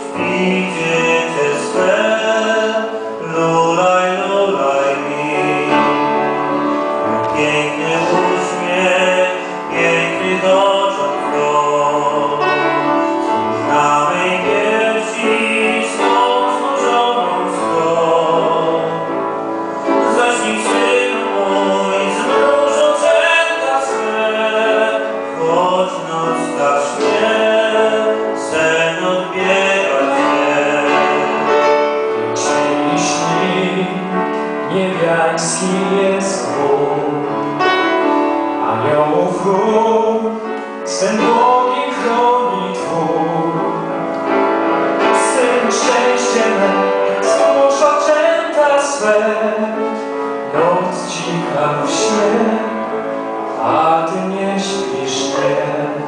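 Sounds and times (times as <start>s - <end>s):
man singing into a microphone: 0.0s - 56.0s
piano accompaniment: 0.0s - 56.0s.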